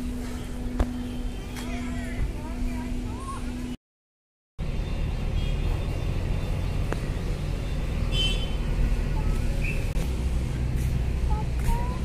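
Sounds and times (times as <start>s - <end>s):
road traffic rumble: 0.0s - 3.8s, 4.6s - 12.0s.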